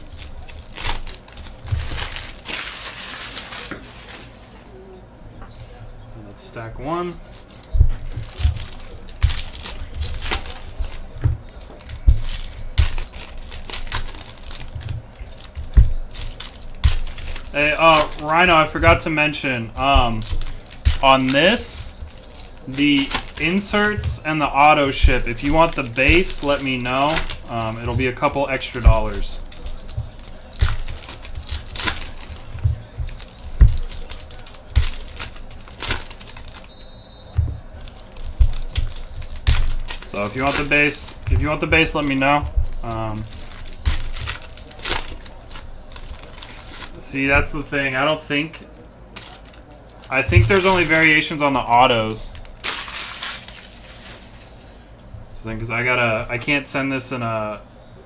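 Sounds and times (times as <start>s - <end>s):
foil wrappers tearing and crinkling: 0.0s - 4.6s, 7.2s - 48.2s, 49.2s - 54.6s.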